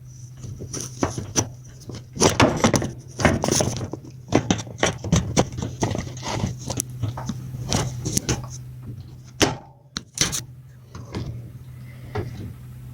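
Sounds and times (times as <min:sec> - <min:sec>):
steady low hum: 0:00.0 - 0:12.9
objects knocking and rattling: 0:00.3 - 0:12.6.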